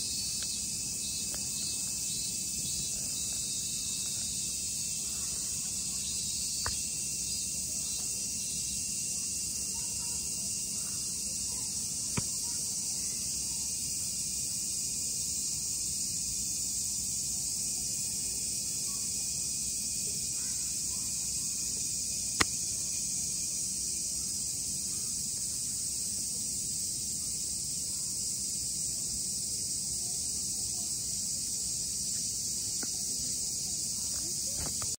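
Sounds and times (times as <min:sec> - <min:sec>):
insects chorus: 0:00.0 - 0:35.0.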